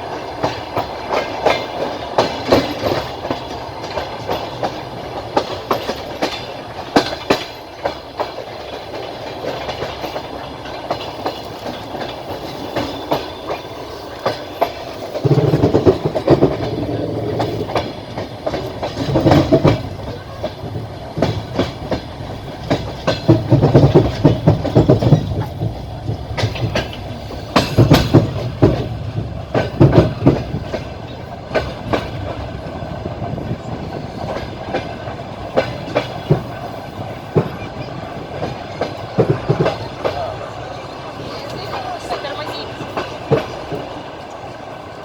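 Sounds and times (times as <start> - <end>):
train low rumble: 0.0 - 45.0
train wheels clattering over rails: 0.0 - 45.0.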